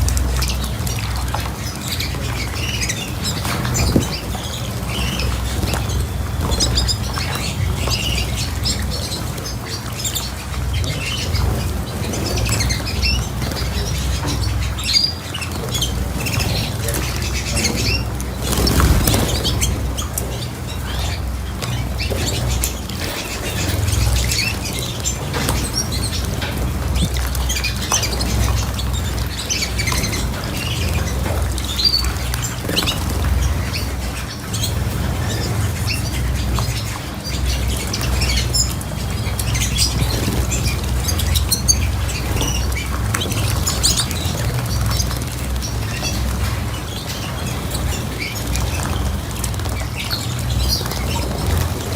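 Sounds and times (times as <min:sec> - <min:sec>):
cage birds chirping and squawking: 0:00.0 - 0:51.9.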